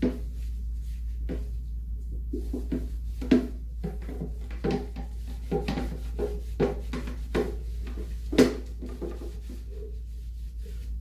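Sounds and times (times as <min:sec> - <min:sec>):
scrubbing plastic tub: 0:00.0 - 0:11.0.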